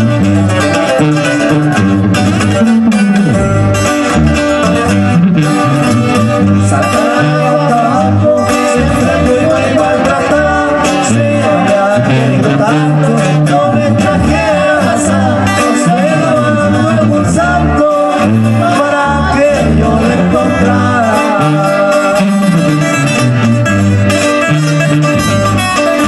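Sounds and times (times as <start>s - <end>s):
man singing: 0.0s - 23.2s
sousaphone bass line: 0.0s - 26.0s
strummed acoustic guitars: 0.0s - 26.0s.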